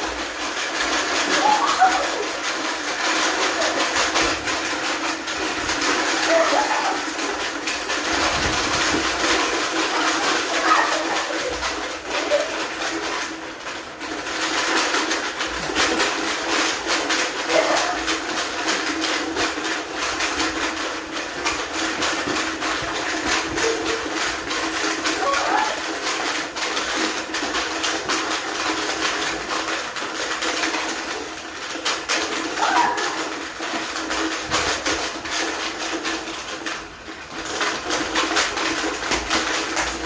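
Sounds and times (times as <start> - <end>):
balls dropping onto tile floor: 0.0 - 40.0
plastic balls rattling in containers: 0.0 - 40.0.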